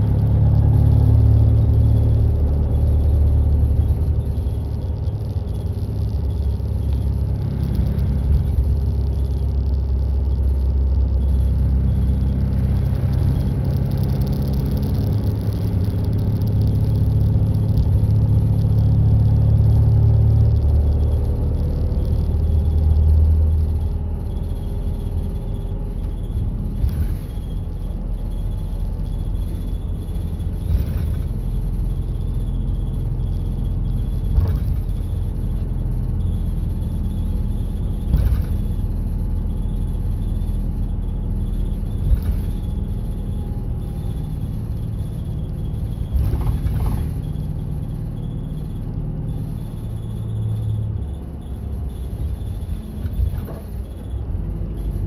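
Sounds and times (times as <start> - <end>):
bus engine and tyre rumble: 0.0 - 55.0.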